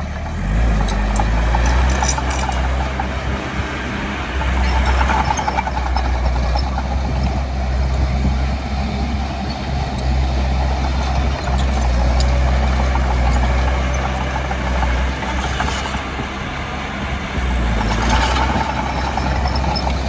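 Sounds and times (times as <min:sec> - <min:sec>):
diesel engine rumbling under load: 0:00.0 - 0:20.0.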